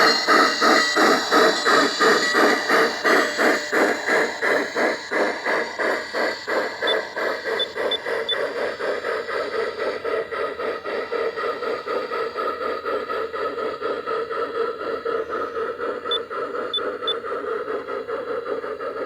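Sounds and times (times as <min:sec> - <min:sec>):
model steam locomotive chuffing: 0:00.0 - 0:19.0.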